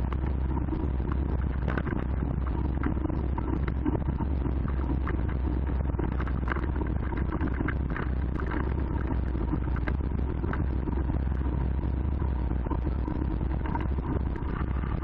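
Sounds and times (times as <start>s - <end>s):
wind and riding rumble: 0.0s - 15.0s.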